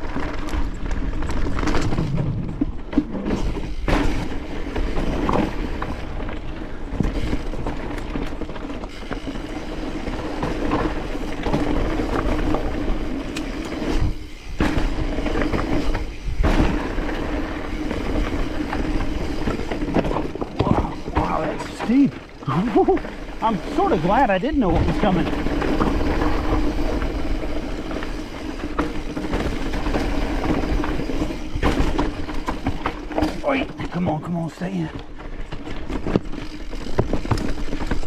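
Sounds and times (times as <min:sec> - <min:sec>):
mountain bike rattling over rocks: 0:00.0 - 0:38.0.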